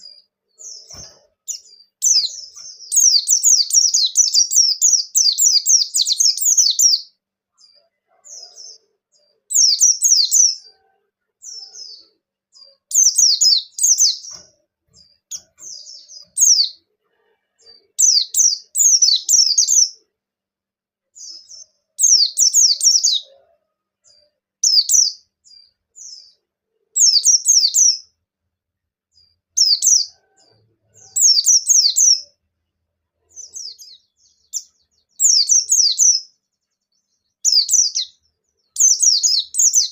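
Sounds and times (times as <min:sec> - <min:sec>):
bird chirping twitters: 0:00.0 - 0:10.8, 0:11.4 - 0:16.8, 0:17.6 - 0:20.1, 0:21.2 - 0:23.4, 0:24.0 - 0:26.4, 0:27.0 - 0:28.2, 0:29.1 - 0:32.4, 0:33.3 - 0:39.9.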